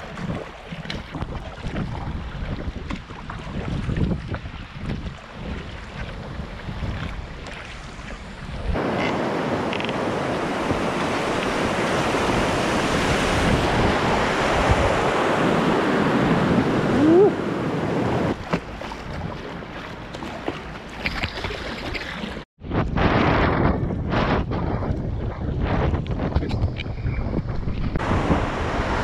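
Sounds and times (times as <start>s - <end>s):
wind buffeting microphone: 0.0s - 19.5s, 22.6s - 29.0s.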